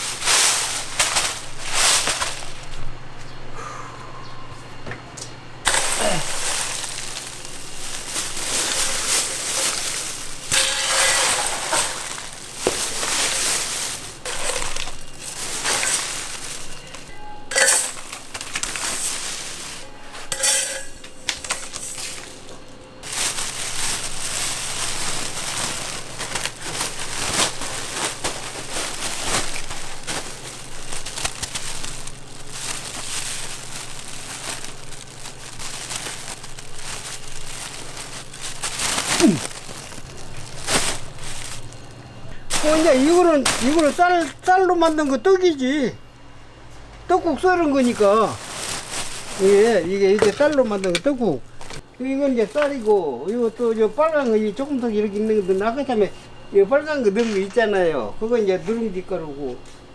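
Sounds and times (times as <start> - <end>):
puffed rice rustling and clattering: 0.0 - 2.9, 5.6 - 45.4, 47.7 - 56.3
low machine hum: 0.0 - 59.9.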